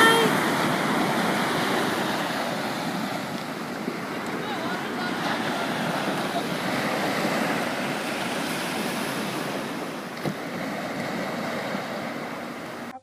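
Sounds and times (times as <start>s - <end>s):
waves washing up a beach: 0.0s - 13.0s.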